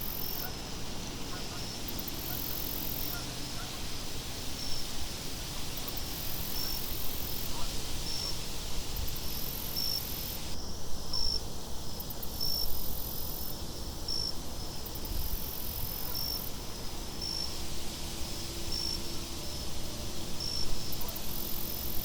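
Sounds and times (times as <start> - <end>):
high insect trill: 0.0 - 11.4, 12.0 - 22.0
crickets chirping: 0.0 - 22.0.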